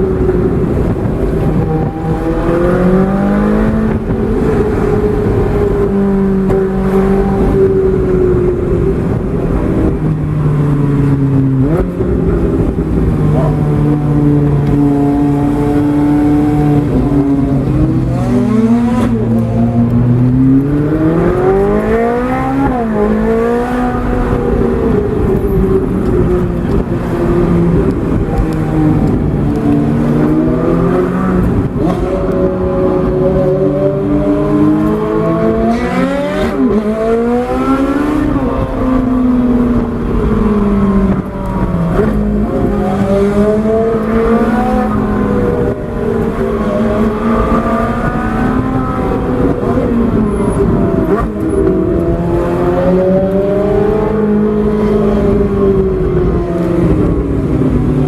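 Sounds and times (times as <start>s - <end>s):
sports car engine accelerating: 0.0s - 58.0s.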